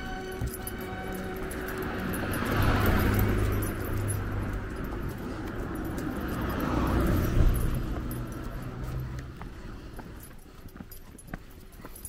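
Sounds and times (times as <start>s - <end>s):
tyre noise on road: 0.0s - 12.0s
vehicle engine hum: 0.0s - 12.0s.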